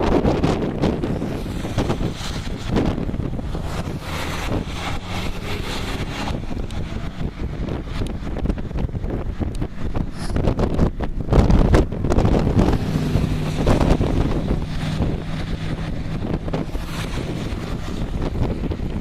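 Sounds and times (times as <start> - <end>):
strong gusting wind: 0.0 - 19.0.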